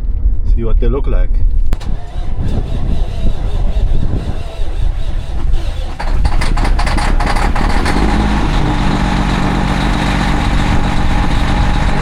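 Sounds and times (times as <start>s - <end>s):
diesel truck engine idling: 1.8s - 12.0s.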